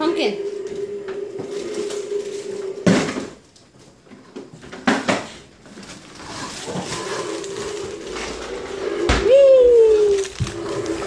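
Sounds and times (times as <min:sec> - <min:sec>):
plastic wheels rolling on tile: 0:00.0 - 0:11.0.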